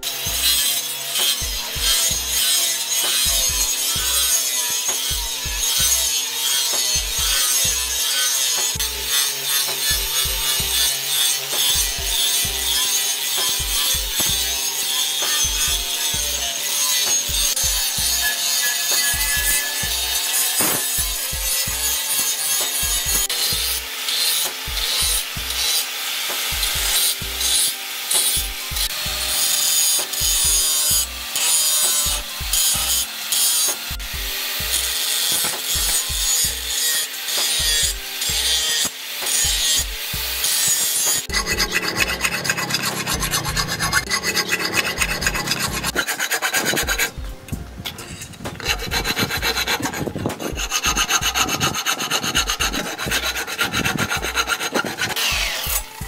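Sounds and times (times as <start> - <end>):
angle grinder cutting steel: 0.0 - 56.0.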